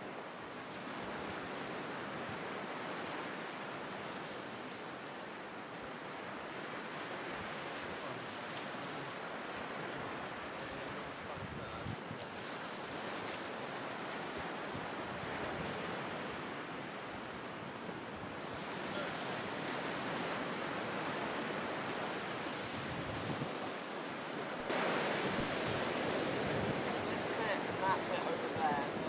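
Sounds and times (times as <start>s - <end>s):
sea waves washing ashore: 0.0s - 29.0s
wind: 0.0s - 29.0s.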